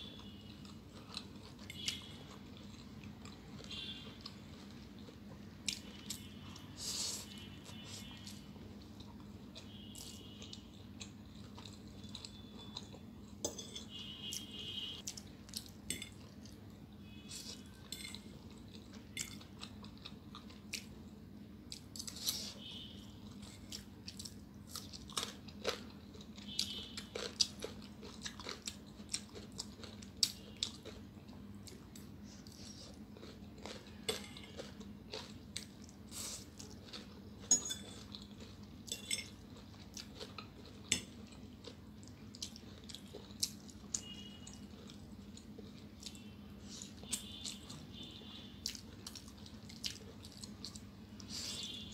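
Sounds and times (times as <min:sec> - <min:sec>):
faint steady hum: 0:00.0 - 0:51.9
wet chewing and crunching: 0:00.0 - 0:51.9.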